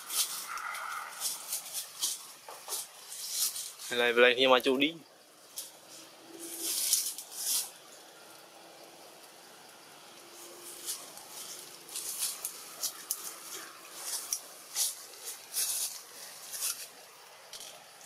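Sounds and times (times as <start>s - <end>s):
rustling of leafy branches: 0.0s - 18.0s.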